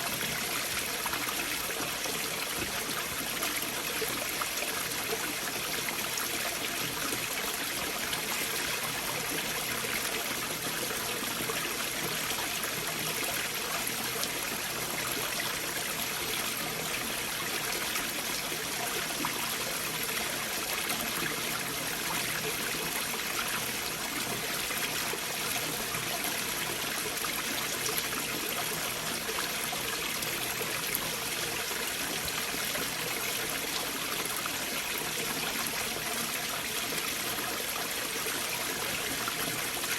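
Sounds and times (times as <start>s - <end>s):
stream water rushing and trickling: 0.0s - 39.9s.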